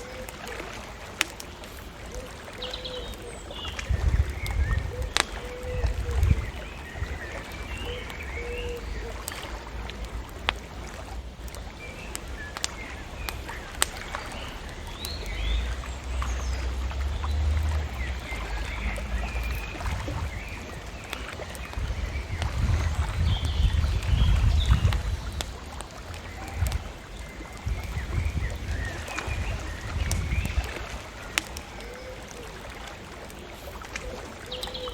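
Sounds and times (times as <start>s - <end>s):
birds chirping: 0.0s - 34.9s
bonfire crackling and popping: 0.0s - 34.9s.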